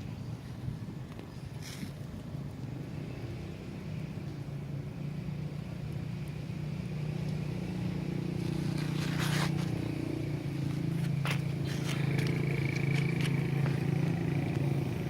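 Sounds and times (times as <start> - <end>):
vehicle engine approaching: 1.8 - 15.0.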